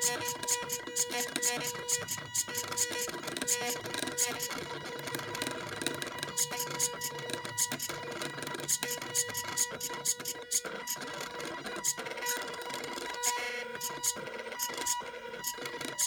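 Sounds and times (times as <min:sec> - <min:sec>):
stepper motor whine: 0:00.0 - 0:15.8
ticks and clicks: 0:00.0 - 0:16.0.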